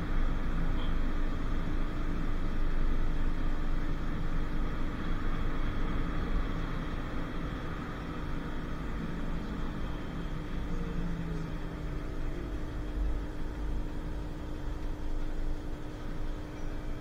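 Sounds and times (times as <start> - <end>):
tram running: 0.0 - 17.0.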